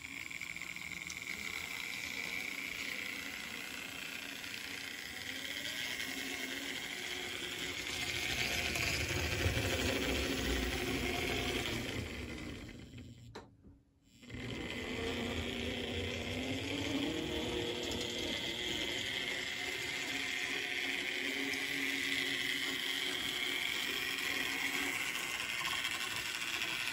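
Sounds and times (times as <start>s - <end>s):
model train motor whirring and rattling: 0.0s - 26.9s.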